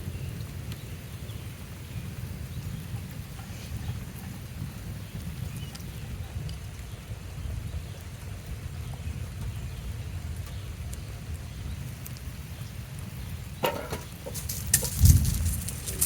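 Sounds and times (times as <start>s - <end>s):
deep constant noise: 0.0s - 16.0s
heavy rain: 0.0s - 16.0s.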